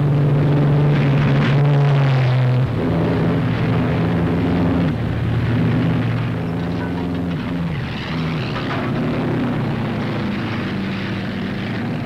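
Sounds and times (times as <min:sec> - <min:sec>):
racing car engines at speed: 0:00.0 - 0:12.0.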